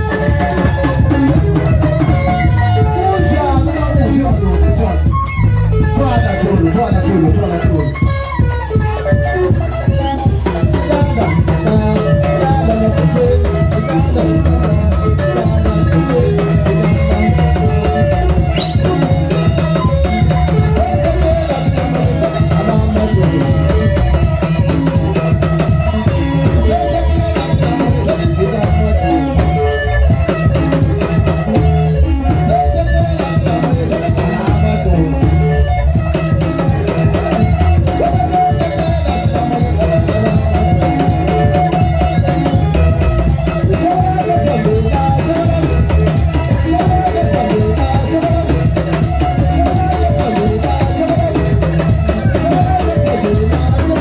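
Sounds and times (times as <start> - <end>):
drum kit beat: 0.0 - 54.0
live band music: 0.0 - 54.0.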